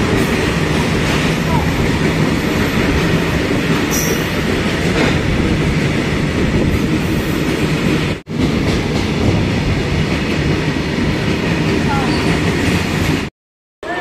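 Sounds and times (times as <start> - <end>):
train wheels rolling on rails: 0.0 - 13.3.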